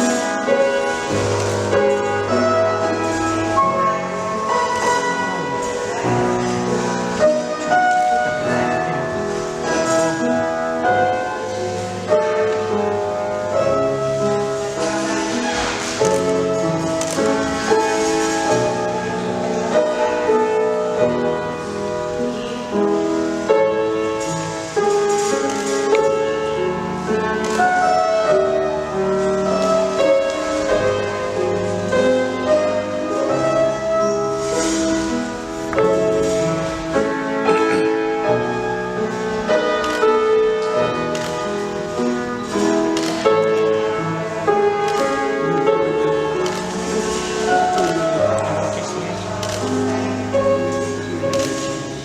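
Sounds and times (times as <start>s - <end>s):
classical piano chords: 0.0s - 52.0s.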